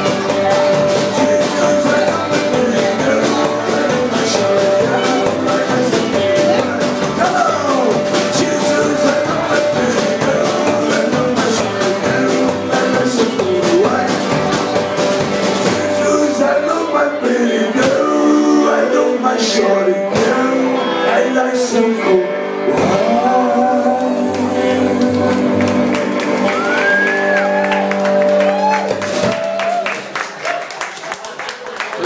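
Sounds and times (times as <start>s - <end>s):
person singing: 0.0s - 28.7s
upright double bass: 0.0s - 29.6s
hollow-body electric guitar: 0.0s - 29.8s
drums: 0.0s - 31.0s.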